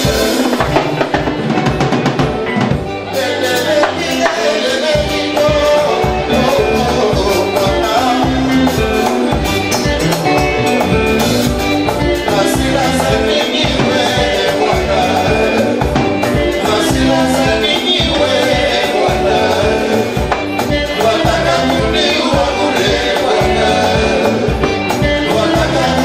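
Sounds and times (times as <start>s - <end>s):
live band playing dance music: 0.0s - 26.0s.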